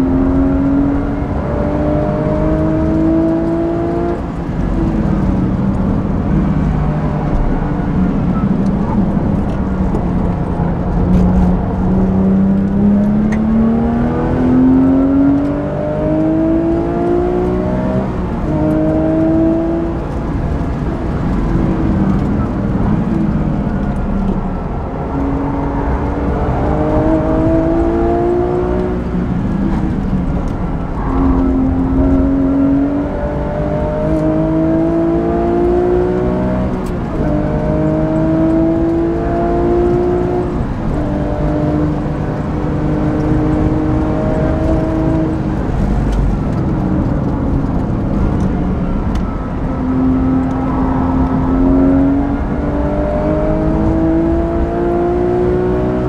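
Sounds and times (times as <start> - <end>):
car engine revving: 0.0 - 56.0
road and wind noise: 0.0 - 56.0.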